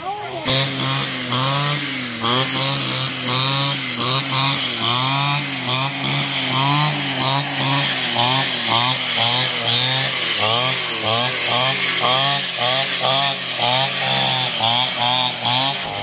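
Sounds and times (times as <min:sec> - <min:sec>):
brush cutter engine under load: 0:00.0 - 0:16.0
line cutting through grass: 0:00.3 - 0:16.0.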